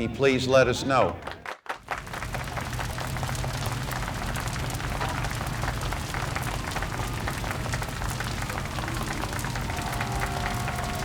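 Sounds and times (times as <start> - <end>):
crowd applauding: 1.1 - 11.0.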